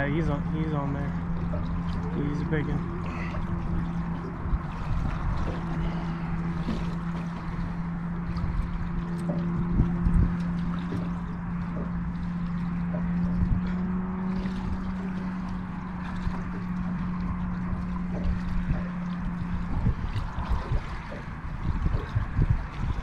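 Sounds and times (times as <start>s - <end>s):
low steady hum: 0.0s - 23.0s
water moving around boat: 0.0s - 23.0s
wind buffeting microphone: 0.0s - 23.0s.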